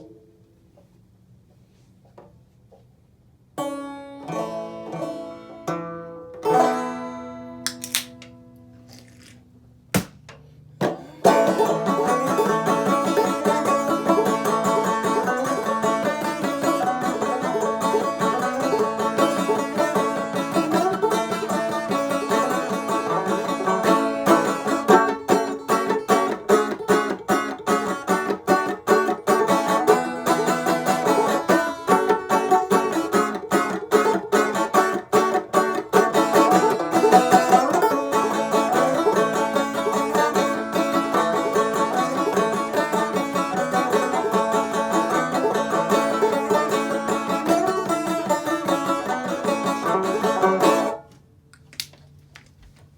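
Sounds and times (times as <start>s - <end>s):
banjo clawhammer melody: 3.6s - 7.7s, 10.8s - 51.1s.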